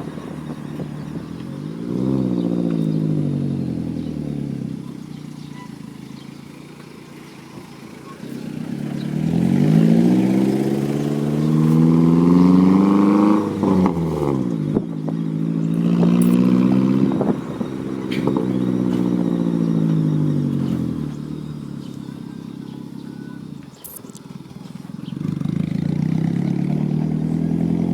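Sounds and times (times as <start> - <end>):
vehicle engine revving: 0.0 - 27.9.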